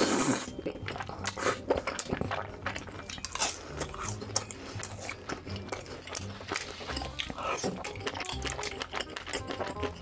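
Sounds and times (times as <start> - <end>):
wet chewing: 0.0 - 10.0.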